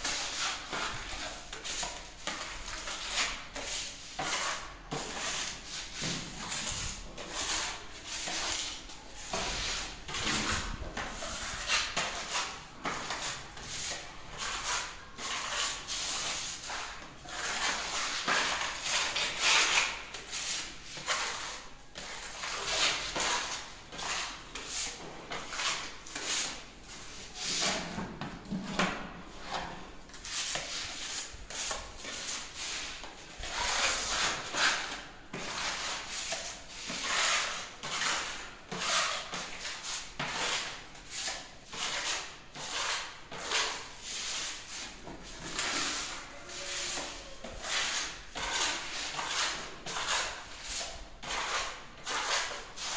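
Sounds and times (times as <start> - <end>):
sanding wall by hand: 0.0 - 28.0, 28.6 - 52.9.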